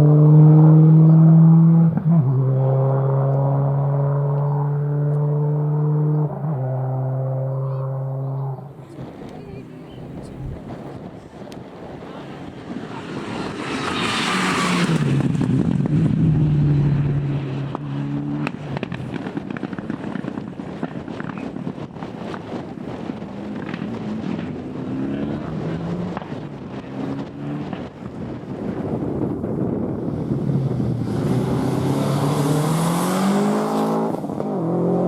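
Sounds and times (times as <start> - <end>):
rally car passing at full throttle: 0.0 - 35.0.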